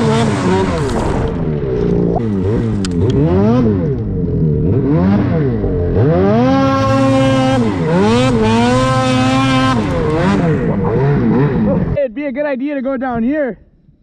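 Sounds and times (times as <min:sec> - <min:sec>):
snowmobile engine revving: 0:00.0 - 0:12.4.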